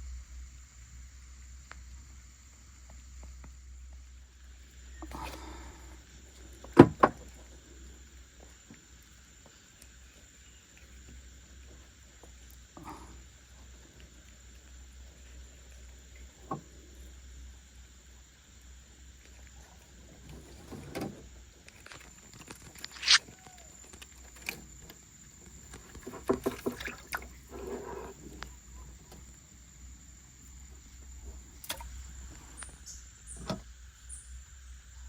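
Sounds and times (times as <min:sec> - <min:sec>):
rustles: 0:00.0 - 0:34.6
high insect drone: 0:00.0 - 0:35.0.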